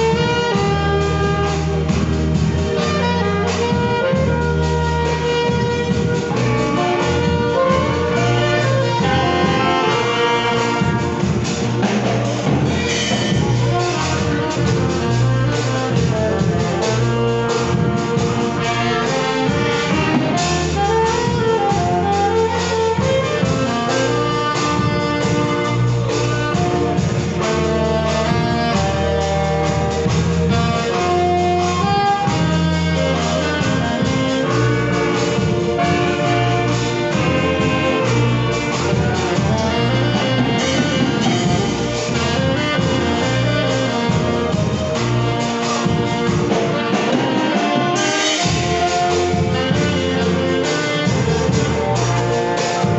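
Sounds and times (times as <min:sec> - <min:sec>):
drum kit beat: 0:00.0 - 0:52.9
saxophones playing gospel tune: 0:00.0 - 0:52.9.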